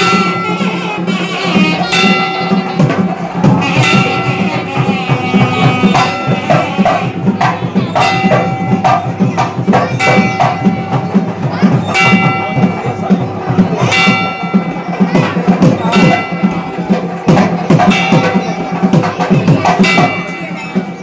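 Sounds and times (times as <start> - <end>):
ringing metallic clash: 0.0 - 1.1, 1.8 - 21.0
rapid drum strokes: 0.0 - 21.0.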